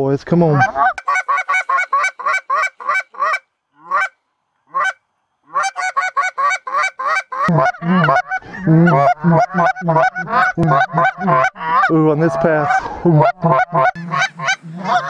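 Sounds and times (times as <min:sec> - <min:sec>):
goose call clucks and honks: 0:00.5 - 0:15.0.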